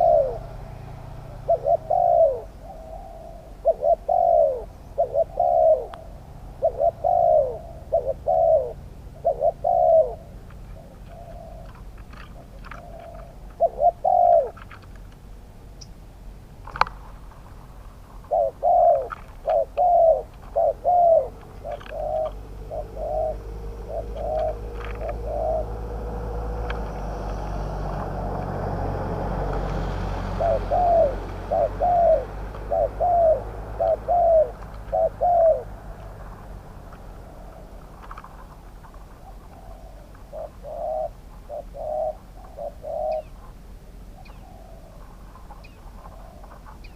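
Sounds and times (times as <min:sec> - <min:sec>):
doves cooing: 0:00.0 - 0:15.1, 0:16.6 - 0:46.9.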